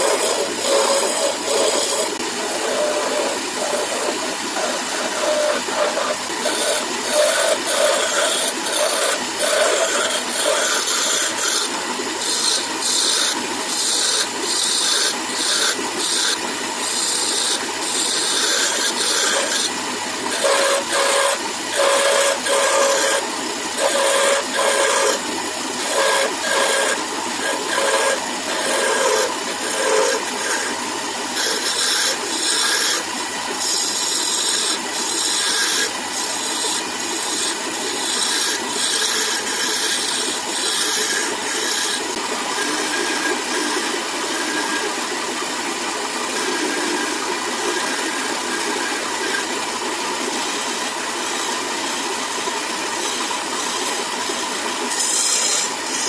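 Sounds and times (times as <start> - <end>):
turning tool cutting wood: 0.0 - 56.0
wood lathe running: 0.0 - 56.0.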